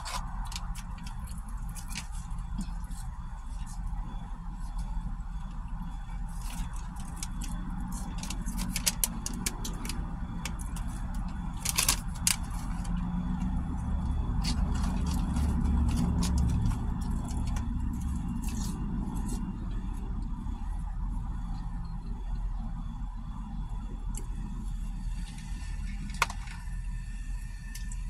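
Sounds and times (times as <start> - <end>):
low vehicle rumble: 0.0 - 28.0.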